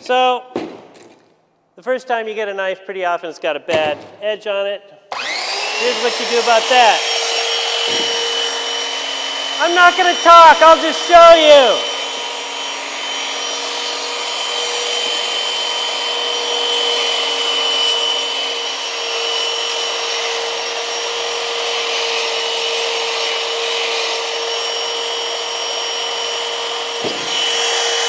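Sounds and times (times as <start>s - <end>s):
power sander motor whine: 5.1s - 28.0s.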